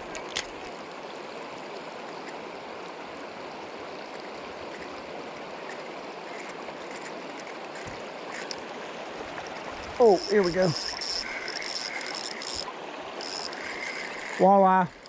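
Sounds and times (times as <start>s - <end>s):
river current rushing: 0.0s - 15.0s.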